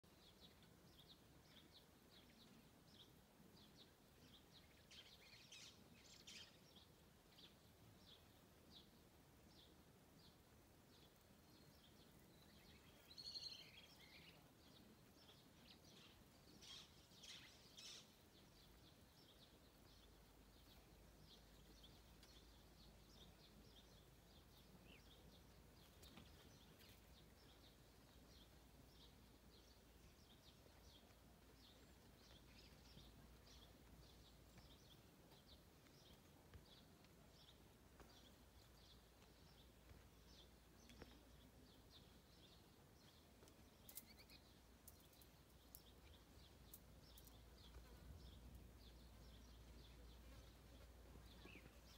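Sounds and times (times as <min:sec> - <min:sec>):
faint birds chirping: 0:00.0 - 0:51.9.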